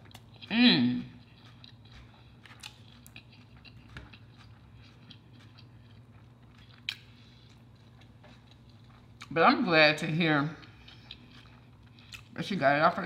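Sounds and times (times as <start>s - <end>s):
chewing fried fish: 0.0s - 13.0s
faint hum: 0.0s - 13.0s.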